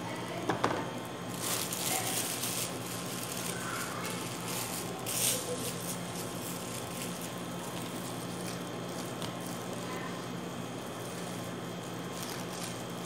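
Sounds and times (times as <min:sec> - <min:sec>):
steady low hum: 0:00.0 - 0:13.0
plastic bag crinkling: 0:01.2 - 0:13.0.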